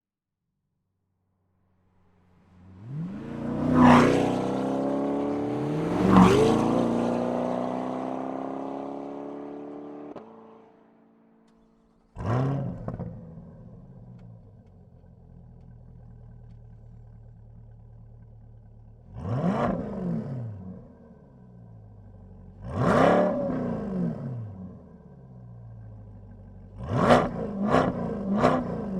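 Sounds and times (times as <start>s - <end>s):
car engine revving and idling: 2.0s - 28.9s.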